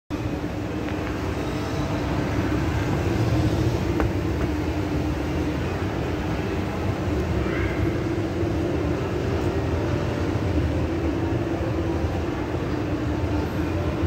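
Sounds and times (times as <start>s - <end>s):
escalator machine hum: 0.1s - 14.0s.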